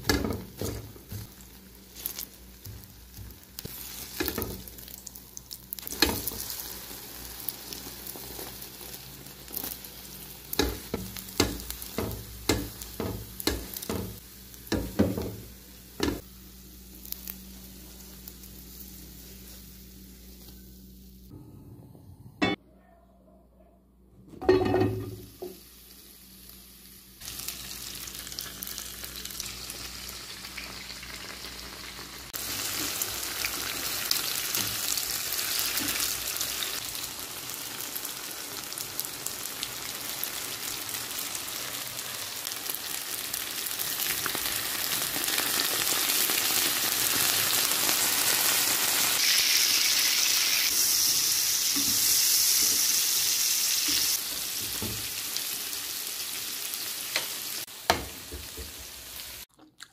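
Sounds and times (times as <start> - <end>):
food frying in oil: 0.0 - 21.3, 24.8 - 59.8.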